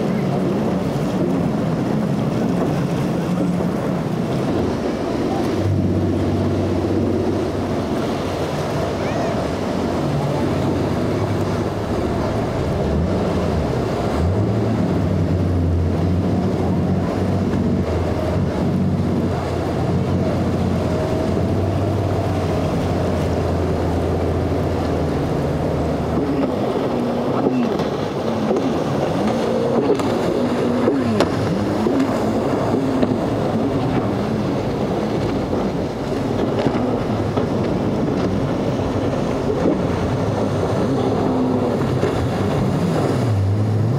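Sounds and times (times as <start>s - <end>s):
outboard boat engines: 0.0s - 43.9s
water wash: 0.0s - 43.9s
wind: 0.0s - 43.9s.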